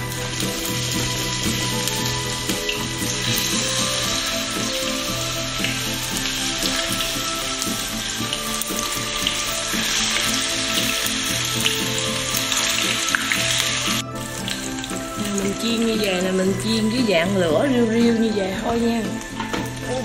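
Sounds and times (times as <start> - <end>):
eggplant frying in hot oil: 0.0 - 20.0.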